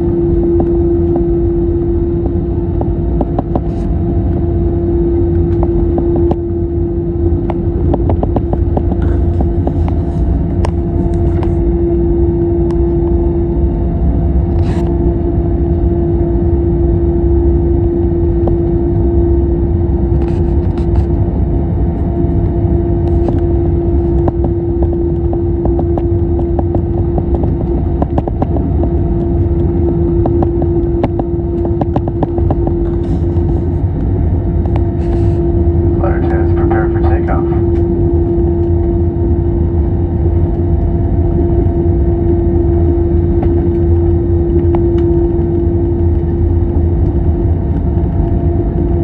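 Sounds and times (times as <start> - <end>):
aircraft cabin engine rumble: 0.0 - 49.0.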